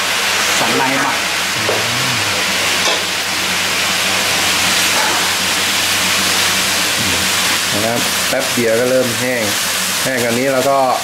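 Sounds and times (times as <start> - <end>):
beef sizzling in a wok: 0.0 - 1.7, 2.4 - 11.0.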